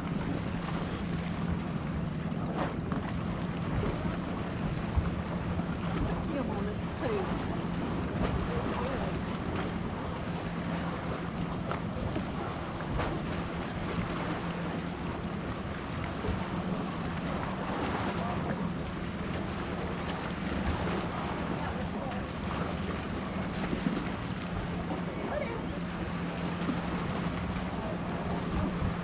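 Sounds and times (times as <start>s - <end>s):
jet ski engine running: 0.0s - 29.0s
water rushing: 0.0s - 29.0s
wind buffeting microphone: 0.0s - 29.0s.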